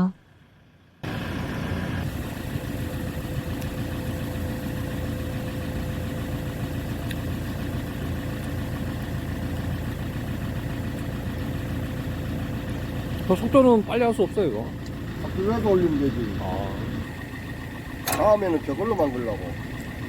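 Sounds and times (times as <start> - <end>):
tractor engine idling: 0.2 - 20.0.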